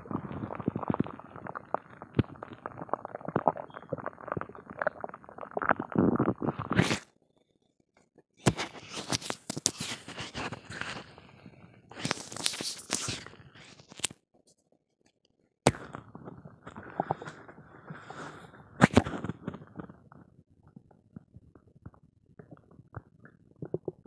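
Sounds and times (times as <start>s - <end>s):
stomach growling and gurgling: 0.0s - 7.6s, 8.4s - 14.1s, 15.7s - 24.0s.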